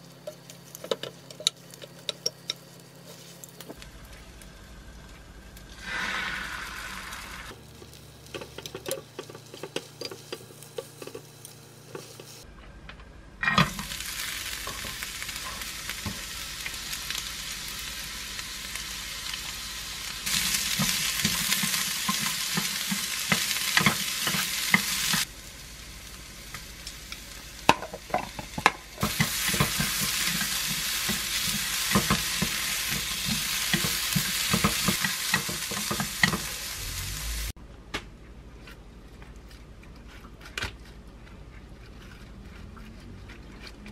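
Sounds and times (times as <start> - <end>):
carrots sizzling in a pan: 0.0 - 12.4, 13.6 - 37.5.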